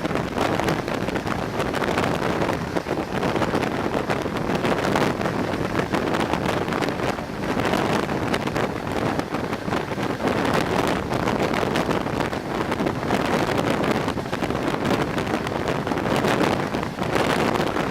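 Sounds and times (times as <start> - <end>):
train running noise: 0.0 - 17.9
wind buffeting microphone: 0.0 - 17.9.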